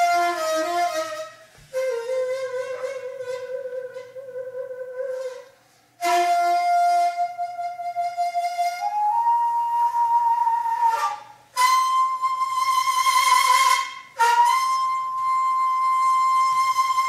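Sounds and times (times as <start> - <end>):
bamboo flute long notes: 0.0 - 17.0.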